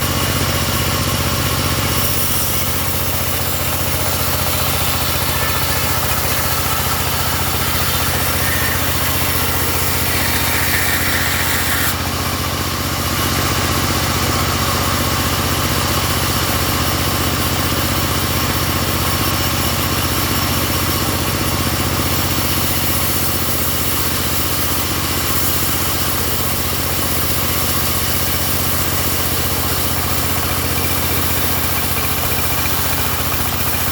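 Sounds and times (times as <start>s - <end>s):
sawmill engine humming: 0.0s - 33.9s.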